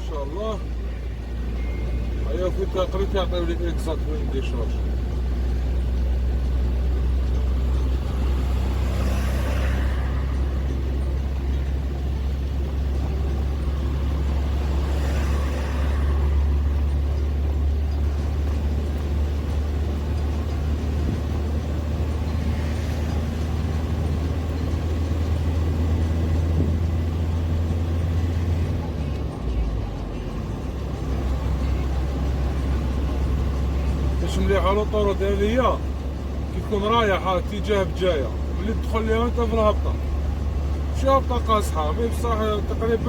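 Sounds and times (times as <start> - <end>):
lorry engine drone: 0.0 - 43.0
road noise: 0.0 - 43.0.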